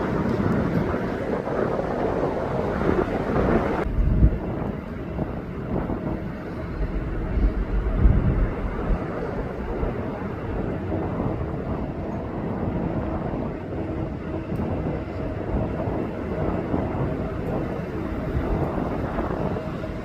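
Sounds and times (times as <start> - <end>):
faint engine whine: 0.0 - 20.0
jet engines rumbling: 0.0 - 20.0.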